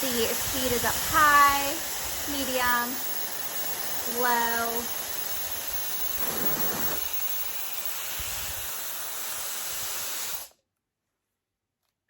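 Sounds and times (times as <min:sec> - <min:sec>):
hair dryer blowing: 0:00.0 - 0:10.5.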